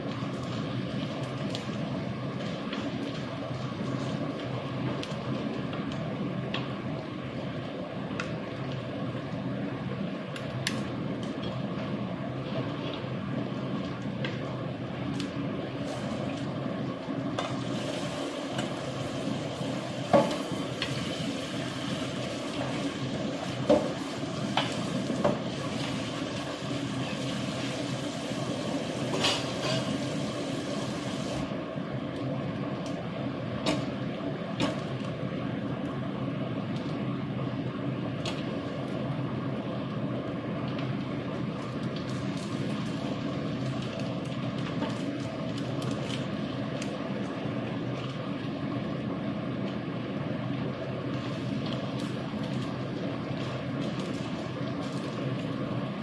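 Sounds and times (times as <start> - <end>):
omelette sizzling in a pan: 0.0 - 56.0.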